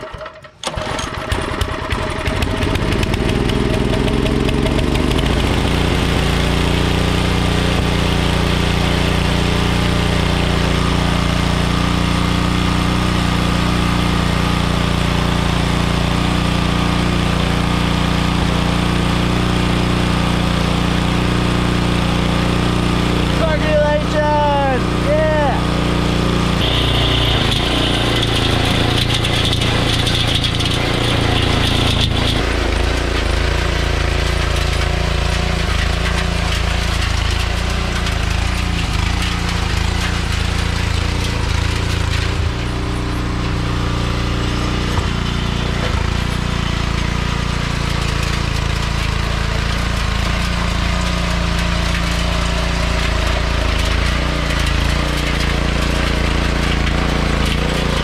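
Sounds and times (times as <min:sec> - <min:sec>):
tiller engine running: 0:00.0 - 0:58.0.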